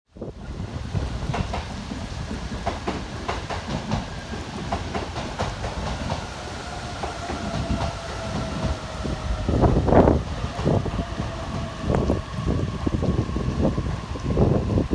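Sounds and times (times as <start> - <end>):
train rumble: 0.2 - 14.9
train wheels clacking: 0.5 - 14.3.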